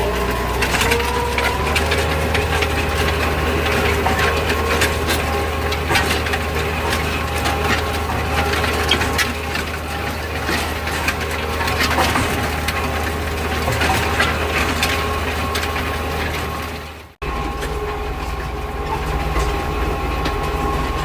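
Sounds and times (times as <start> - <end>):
tractor engine running: 0.0 - 21.0
crackling of stalks being crushed: 0.1 - 21.0.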